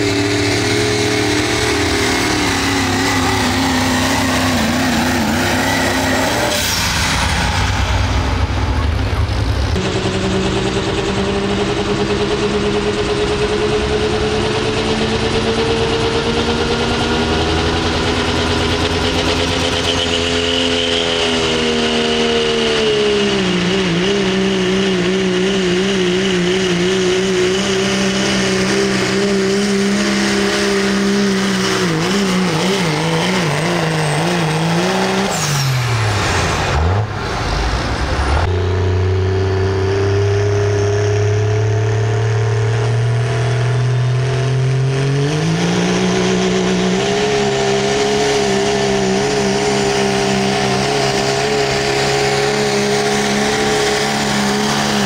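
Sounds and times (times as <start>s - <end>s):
diesel truck engine at full throttle: 0.0s - 55.0s.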